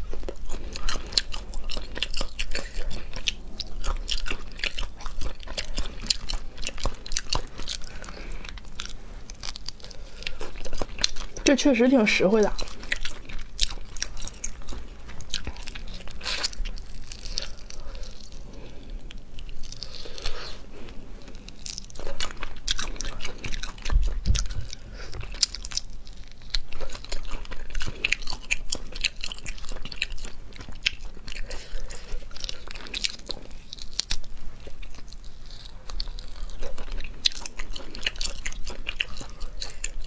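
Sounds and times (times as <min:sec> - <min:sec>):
crunching and chewing peppers: 0:00.0 - 0:40.0.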